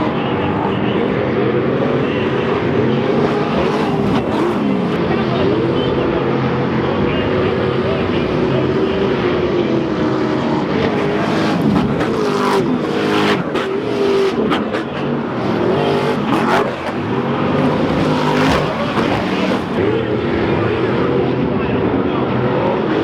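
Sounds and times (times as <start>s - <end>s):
race truck engines revving: 0.0s - 23.0s.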